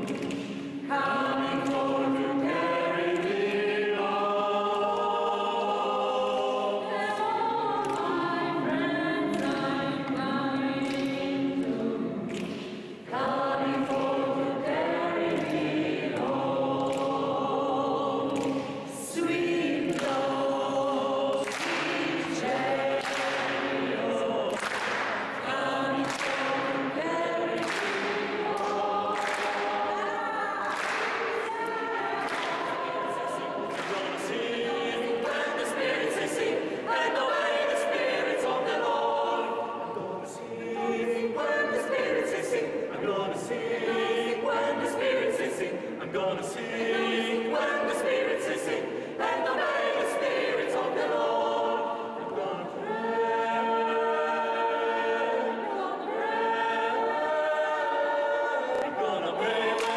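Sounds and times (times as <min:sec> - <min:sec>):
mixed choir singing unaccompanied: 0:00.0 - 0:59.9.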